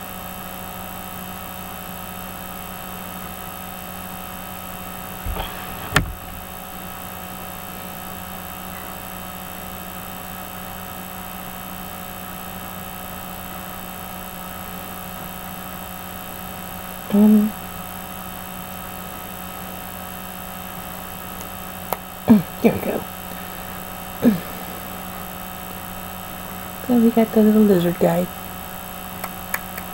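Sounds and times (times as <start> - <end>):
electrical mains hum: 0.0 - 29.9.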